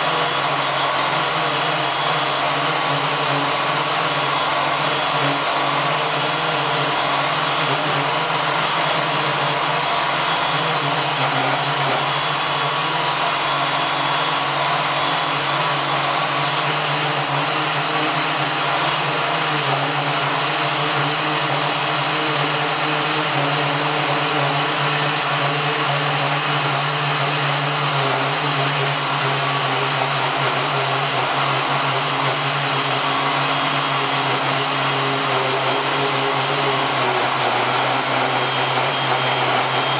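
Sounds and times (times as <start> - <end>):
power cutting tool drone: 0.0 - 39.9.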